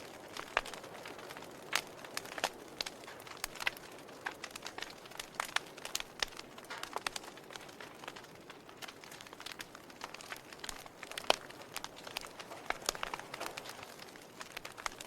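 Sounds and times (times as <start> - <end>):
log fire crackling: 0.0 - 15.0.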